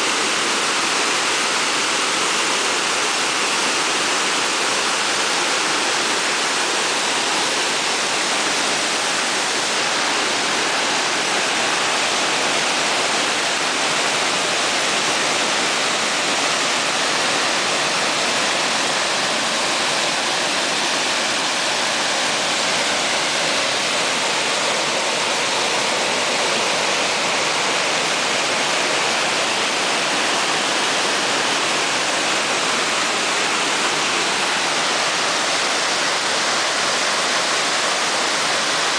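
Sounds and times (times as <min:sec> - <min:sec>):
floodwater rushing over weir: 0:00.0 - 0:38.9.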